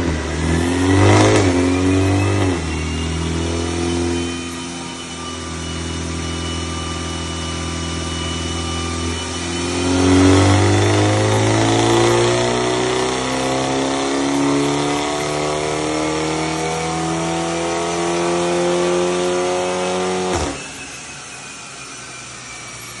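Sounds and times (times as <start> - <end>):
car engine and exhaust accelerating: 0.0 - 23.0.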